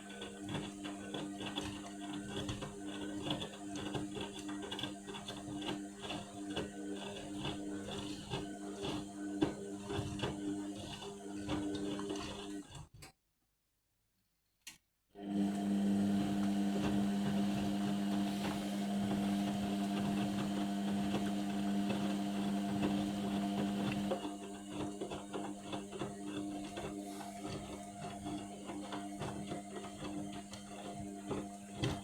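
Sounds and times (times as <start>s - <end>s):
washing machine motor humming: 0.0s - 12.6s, 15.2s - 32.0s.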